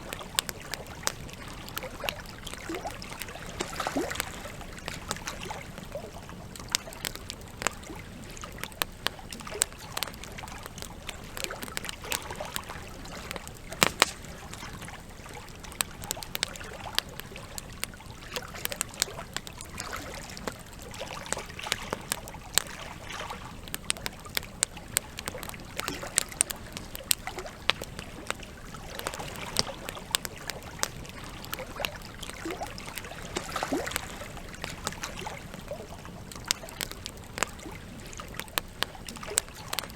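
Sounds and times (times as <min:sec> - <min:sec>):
campfire logs crackling and popping: 0:00.0 - 0:39.9
trickling water: 0:00.0 - 0:39.9.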